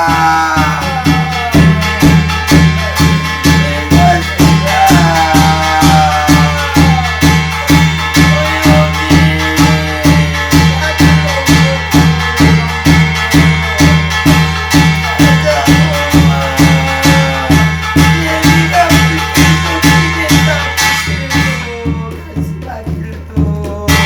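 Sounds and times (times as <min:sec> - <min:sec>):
wavering melody line: 0:00.0 - 0:22.2
steady drum beat: 0:00.0 - 0:24.0.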